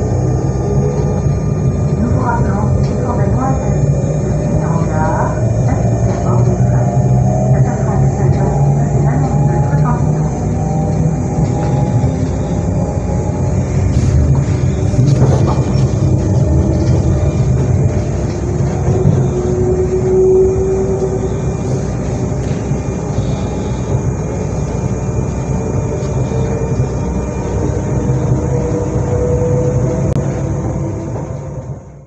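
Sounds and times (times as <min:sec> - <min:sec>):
electric train equipment humming: 0:00.0 - 0:32.0
rising whine: 0:00.0 - 0:32.0.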